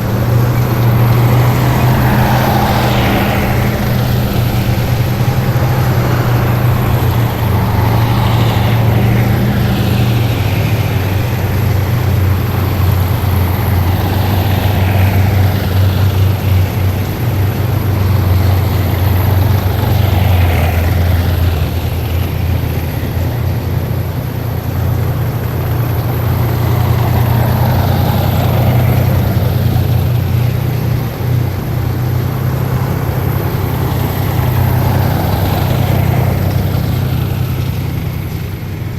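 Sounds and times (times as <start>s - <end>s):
heavy vehicle engines rumbling: 0.0s - 38.9s
passing vehicle whine: 0.0s - 38.9s.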